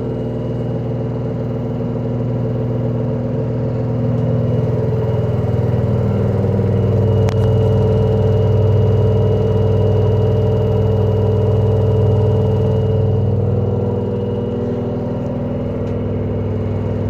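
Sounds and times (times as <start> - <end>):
washing machine spinning drone: 0.0 - 17.0.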